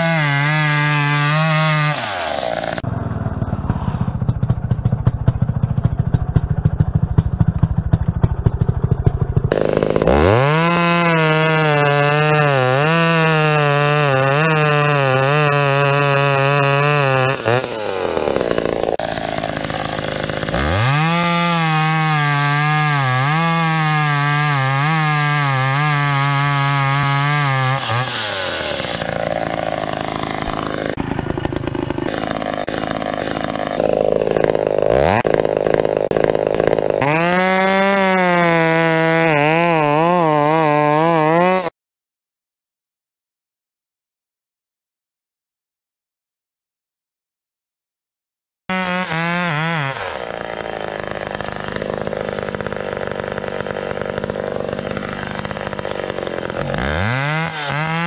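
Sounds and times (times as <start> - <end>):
chainsaw cutting into tree trunk: 0.0 - 41.7, 48.7 - 58.0
chainsaw idling and revving: 0.0 - 41.7, 48.7 - 58.0.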